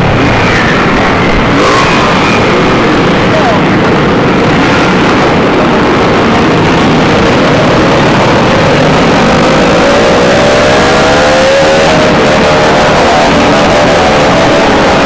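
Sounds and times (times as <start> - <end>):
loud motorcycle engine noise: 0.0 - 15.0
motorcycle engine revving: 0.0 - 15.0.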